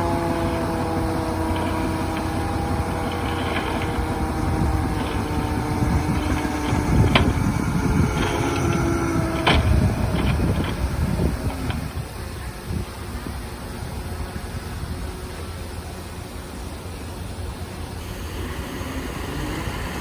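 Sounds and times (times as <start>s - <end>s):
bulldozer engine running: 0.0s - 12.6s, 15.2s - 20.0s.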